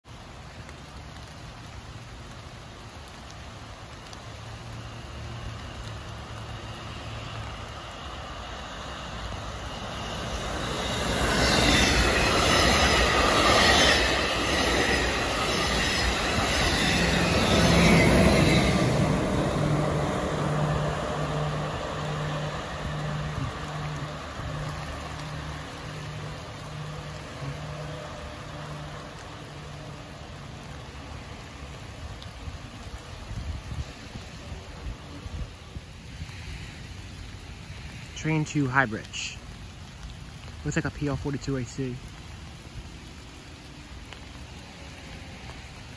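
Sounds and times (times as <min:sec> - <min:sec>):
train passing at speed: 0:00.1 - 0:41.3, 0:42.2 - 0:45.9.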